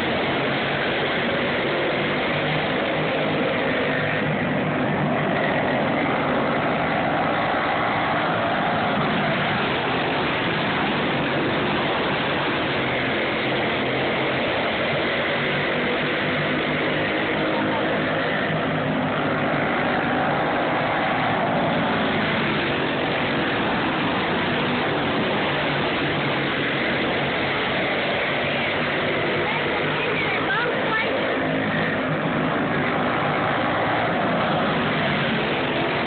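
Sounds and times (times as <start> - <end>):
go-kart engines droning: 0.0 - 36.0.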